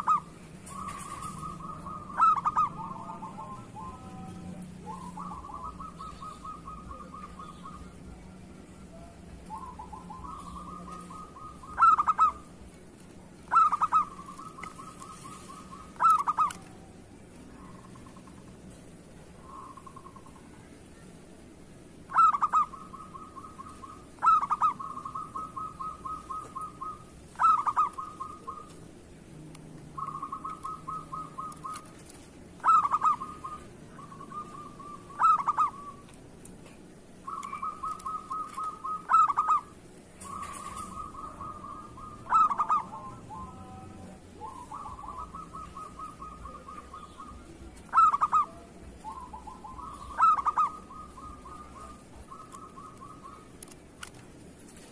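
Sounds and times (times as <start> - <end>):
dove cooing: 0.0 - 18.6, 22.0 - 29.2, 29.8 - 36.2, 37.2 - 54.9.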